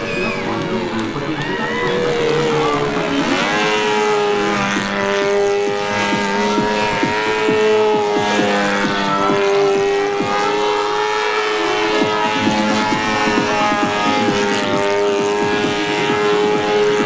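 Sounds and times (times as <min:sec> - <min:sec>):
model aircraft engine buzzing: 0:00.0 - 0:17.0.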